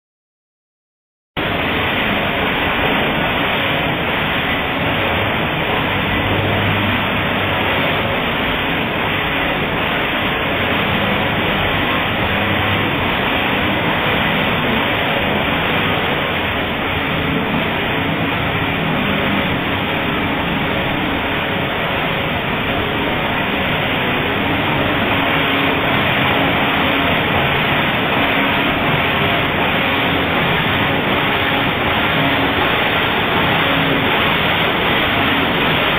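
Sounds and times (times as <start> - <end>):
knitting machines running: 1.4 - 35.9.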